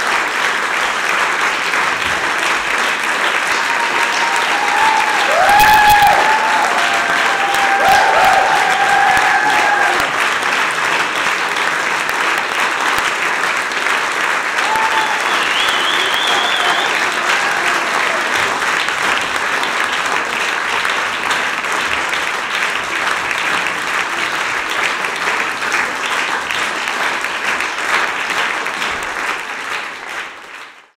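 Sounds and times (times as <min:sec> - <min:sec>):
audience applauding: 0:00.0 - 0:30.9.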